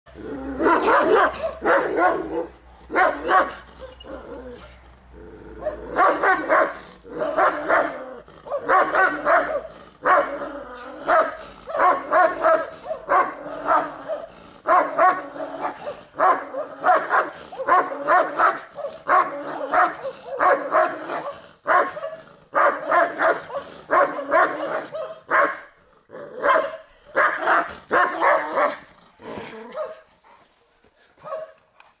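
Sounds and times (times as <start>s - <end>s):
dog barking: 0.6s - 4.1s, 5.6s - 10.4s, 11.1s - 25.8s, 26.4s - 28.8s, 29.7s - 30.1s, 31.2s - 31.6s.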